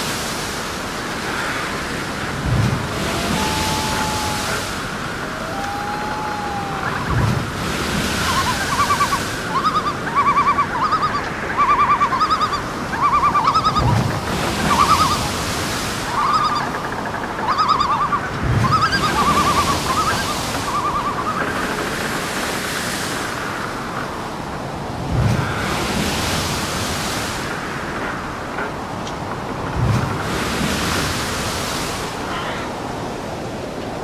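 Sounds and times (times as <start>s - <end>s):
water and wind noise: 0.0s - 34.0s.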